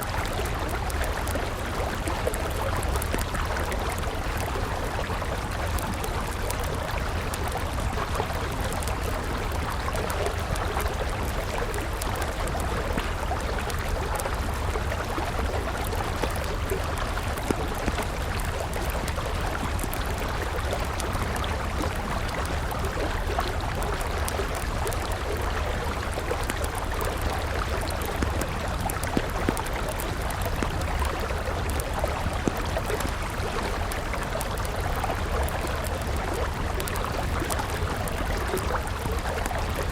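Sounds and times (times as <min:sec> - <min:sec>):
campfire crackling: 0:00.0 - 0:39.9
river water flowing: 0:00.0 - 0:39.9.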